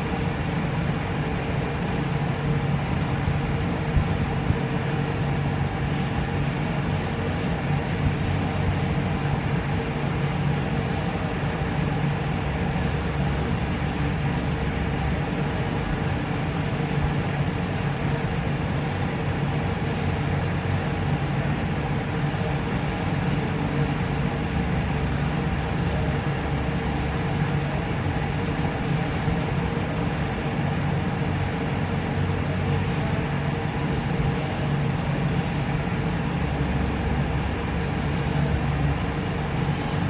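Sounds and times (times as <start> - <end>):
low mechanical hum and whir: 0.0 - 40.0.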